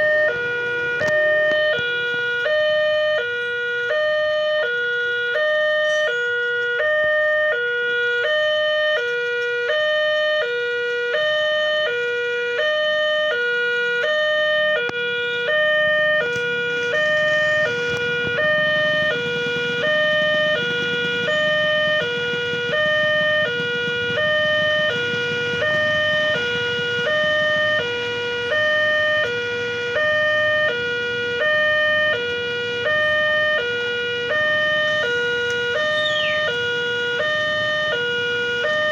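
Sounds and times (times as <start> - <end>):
level crossing two-tone siren: 0.0 - 38.9.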